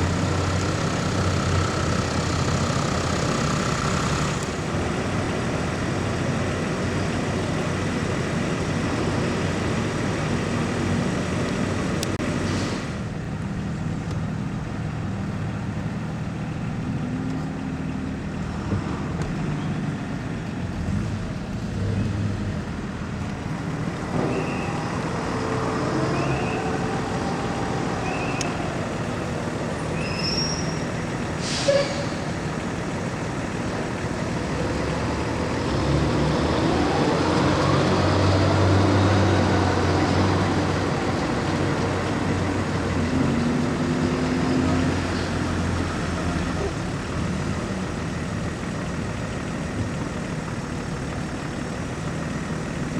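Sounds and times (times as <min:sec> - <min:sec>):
vehicle engines rumbling: 0:00.0 - 0:52.9.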